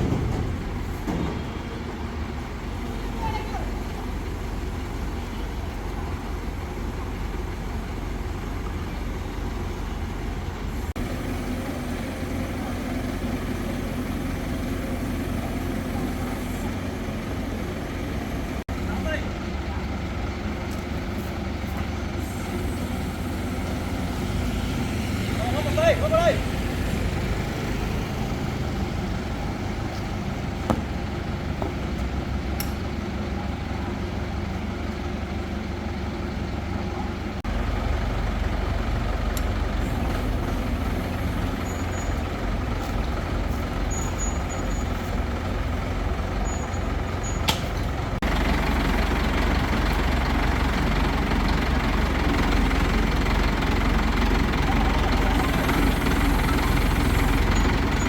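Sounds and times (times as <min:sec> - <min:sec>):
crane engine running: 0:00.0 - 0:58.0.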